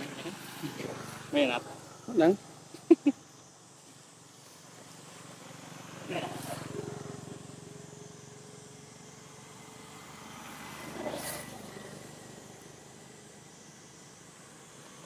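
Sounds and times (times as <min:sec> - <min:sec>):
distant vehicle engine hum: 0:00.0 - 0:15.0.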